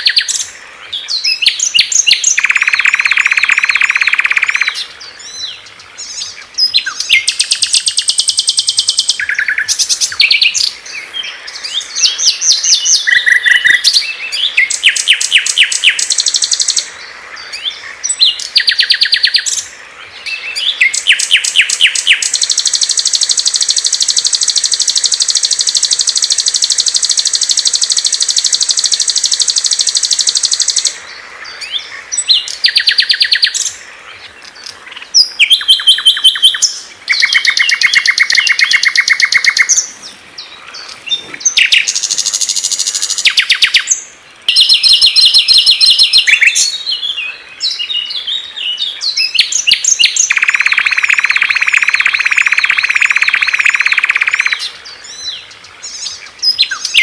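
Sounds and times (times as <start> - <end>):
songbirds singing trills: 0.0 - 57.0.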